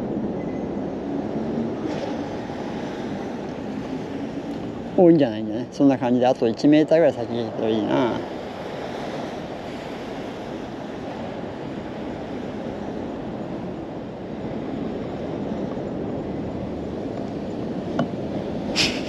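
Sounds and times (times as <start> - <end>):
rushing outdoor background noise: 0.0 - 19.0.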